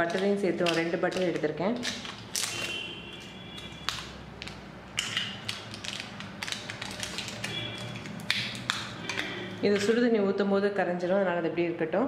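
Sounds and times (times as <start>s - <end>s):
plastic cups clicking and crackling: 0.0s - 10.1s.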